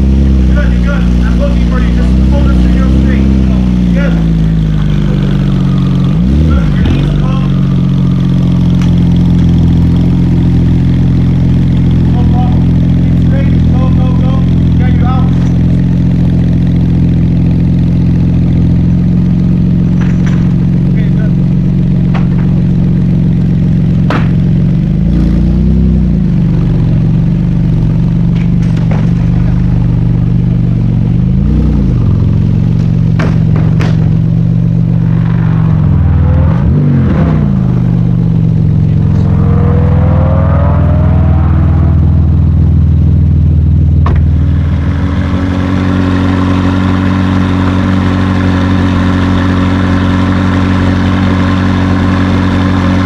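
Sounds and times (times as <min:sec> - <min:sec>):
car engine idling and revving: 0:00.0 - 0:53.0
car pulling away: 0:00.0 - 0:53.0
different engine idling: 0:00.0 - 0:53.0.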